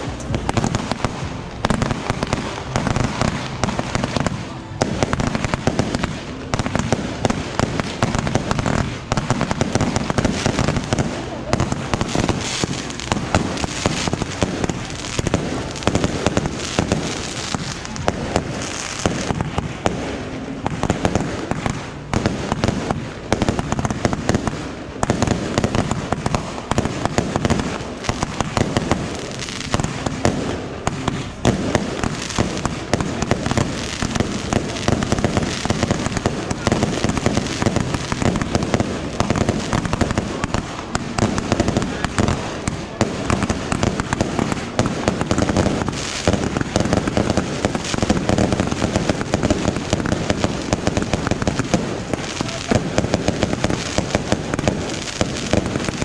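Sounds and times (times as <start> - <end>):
fireworks popping and crackling: 0.0 - 56.0.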